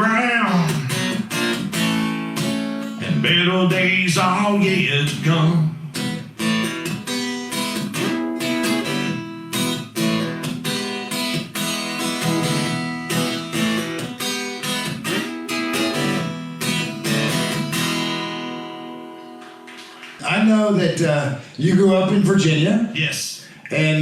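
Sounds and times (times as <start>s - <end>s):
acoustic guitar strumming: 0.0s - 20.5s.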